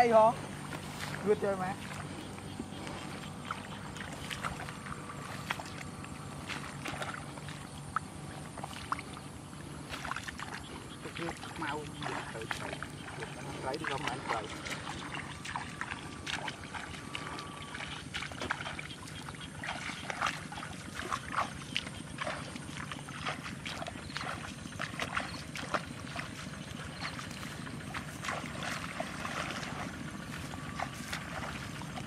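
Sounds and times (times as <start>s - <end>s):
bare feet wading through water: 0.0s - 32.0s.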